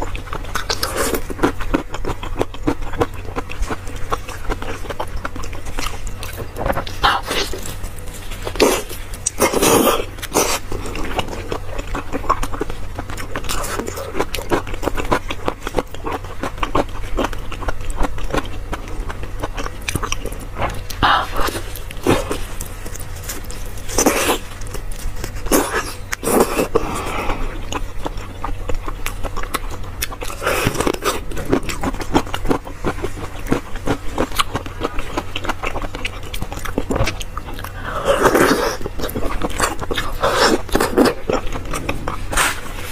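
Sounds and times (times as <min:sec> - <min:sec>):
low hum: 0:00.0 - 0:42.9
wet chewing: 0:00.0 - 0:42.9.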